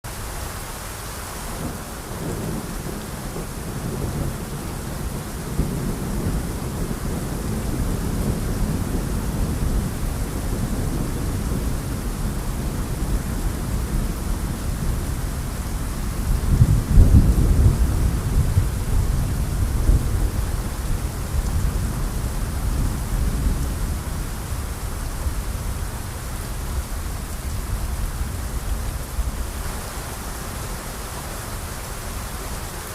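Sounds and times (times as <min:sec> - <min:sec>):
steady rain falling: 0:00.0 - 0:32.9
thunder rumble: 0:01.6 - 0:29.6.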